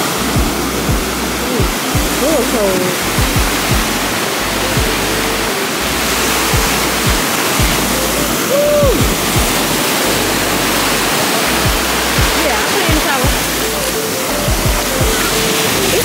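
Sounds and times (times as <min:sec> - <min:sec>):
music with deep bass: 0:00.0 - 0:16.0
ocean surf rushing: 0:00.0 - 0:16.0.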